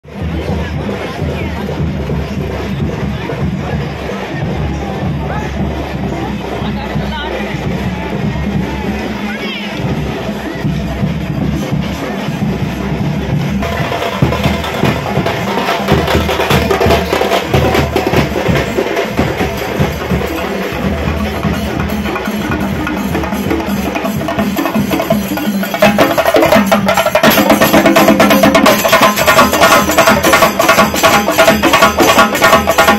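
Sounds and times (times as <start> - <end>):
drum troupe fast rhythm: 0.0 - 32.9.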